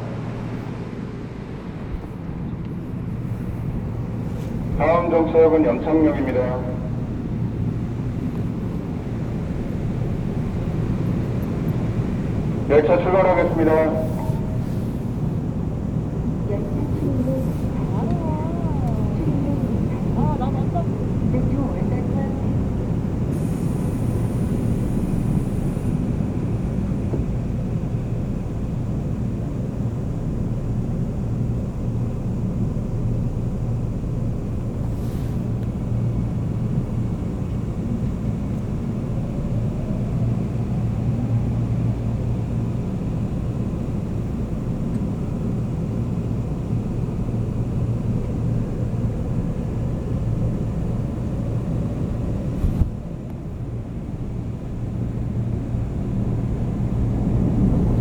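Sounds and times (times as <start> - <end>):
subway train rumbling: 0.0 - 58.0.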